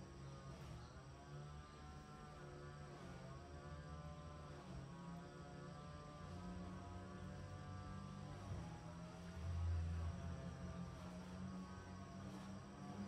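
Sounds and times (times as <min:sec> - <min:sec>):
distant small engine running: 0:00.0 - 0:13.0.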